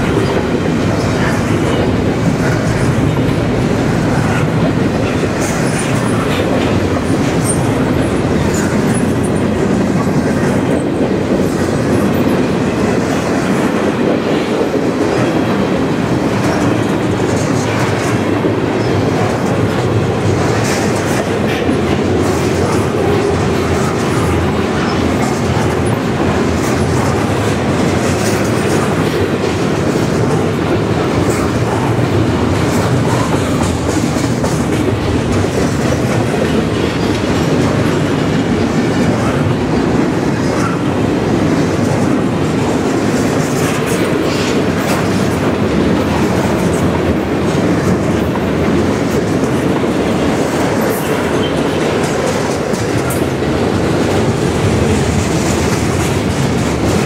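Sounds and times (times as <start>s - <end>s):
steel train wheels rolling on rails: 0.0s - 57.0s.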